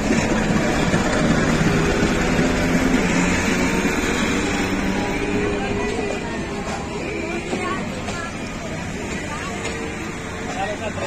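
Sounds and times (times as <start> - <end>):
diesel locomotive droning: 0.0 - 11.0
rumble of coaches rolling: 0.0 - 11.0.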